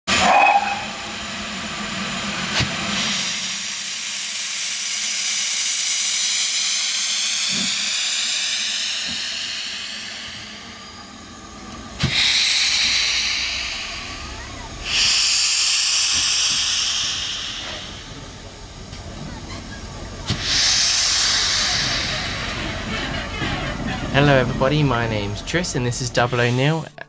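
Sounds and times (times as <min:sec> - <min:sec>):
locomotive venting steam hiss: 0:00.1 - 0:26.9.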